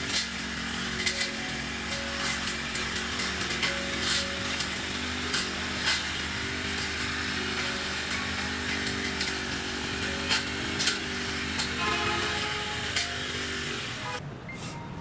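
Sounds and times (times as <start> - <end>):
small petrol engine running: 0.0 - 14.2.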